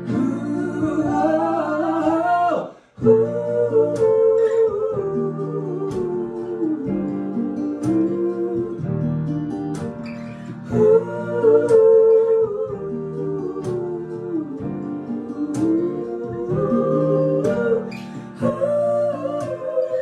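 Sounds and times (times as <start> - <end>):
acoustic guitar: 0.0 - 20.0
person singing: 0.0 - 20.0
piano: 0.0 - 20.0.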